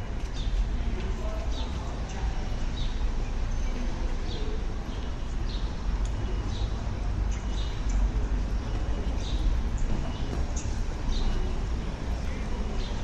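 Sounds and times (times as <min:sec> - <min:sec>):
murmur of the town: 0:00.0 - 0:13.0
small birds chirping: 0:00.2 - 0:13.0.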